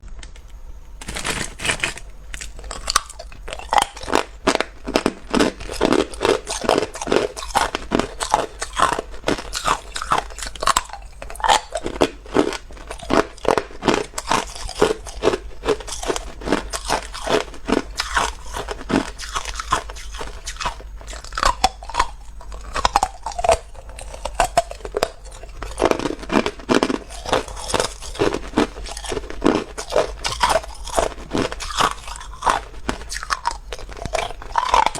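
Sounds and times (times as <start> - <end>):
ice cubes being chewed: 1.0 - 34.9.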